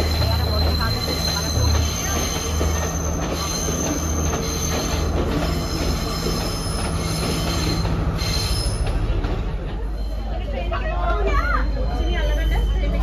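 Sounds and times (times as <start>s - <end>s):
train engine rumble: 0.0s - 13.0s.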